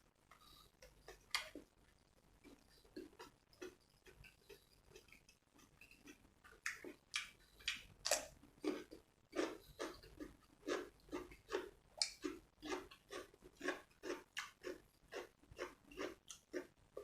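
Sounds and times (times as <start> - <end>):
person chewing with mouth smacks: 0.3 - 1.7, 2.4 - 17.0.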